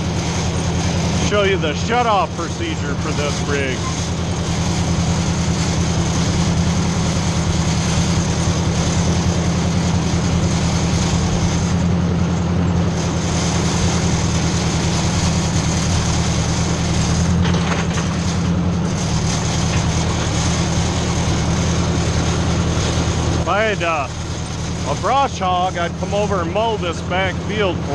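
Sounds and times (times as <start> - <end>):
tractor engine droning: 0.0 - 27.9.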